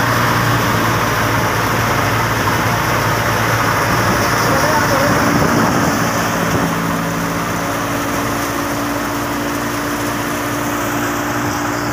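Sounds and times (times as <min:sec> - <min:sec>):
tractor engine running: 0:00.0 - 0:11.9.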